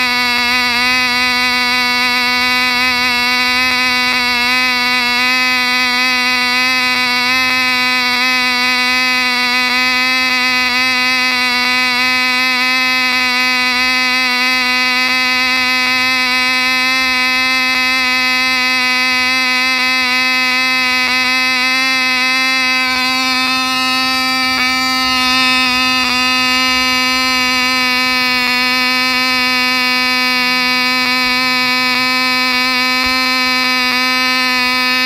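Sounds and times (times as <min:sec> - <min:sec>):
model plane engine buzzing: 0:00.0 - 0:35.0.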